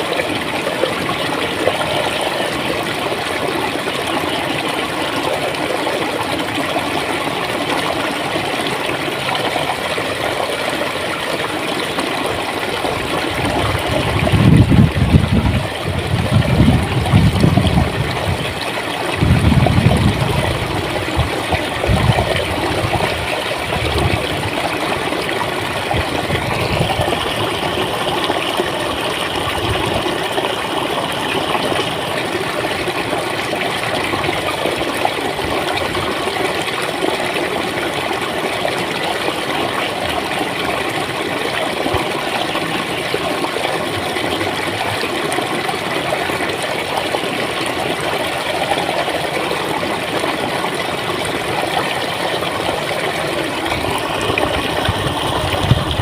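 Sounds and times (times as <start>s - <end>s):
water flowing and gurgling: 0.0s - 56.0s.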